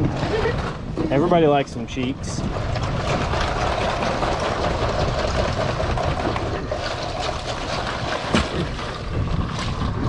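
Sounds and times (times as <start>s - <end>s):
boat engine rumble: 0.0s - 10.0s.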